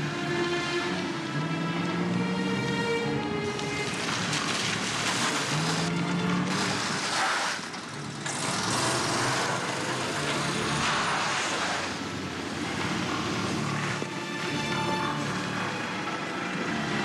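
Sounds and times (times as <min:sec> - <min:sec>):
car engine revving: 0:00.0 - 0:17.0
tyres skidding through slush: 0:00.0 - 0:17.0.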